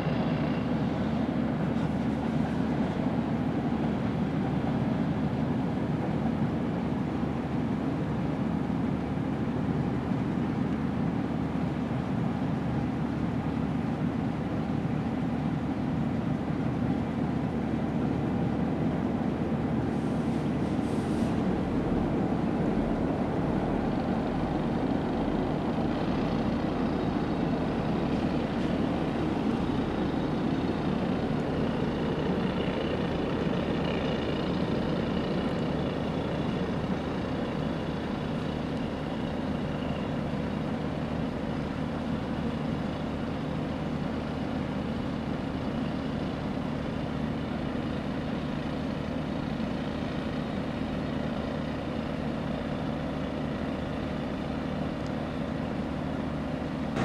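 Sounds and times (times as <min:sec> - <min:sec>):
low mechanical drone: 0:00.0 - 0:57.0.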